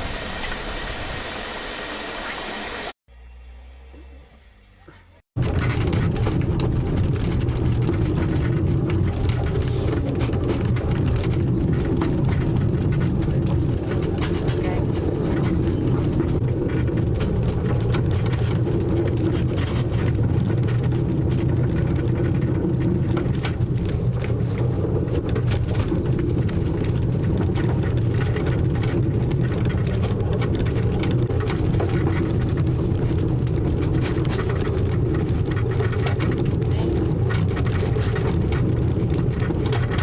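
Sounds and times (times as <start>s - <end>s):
train rumbling on track: 0.0s - 4.0s, 4.8s - 40.0s
carriage clattering and rattling: 5.4s - 40.0s.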